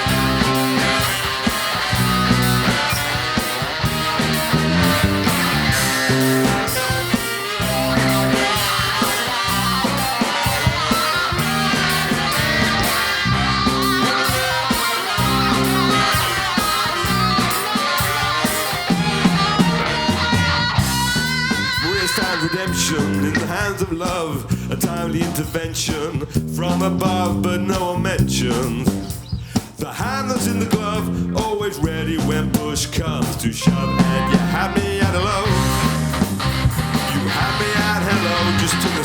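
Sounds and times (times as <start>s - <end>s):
bass and drum groove: 0.0s - 39.0s
electric guitar: 0.0s - 39.0s.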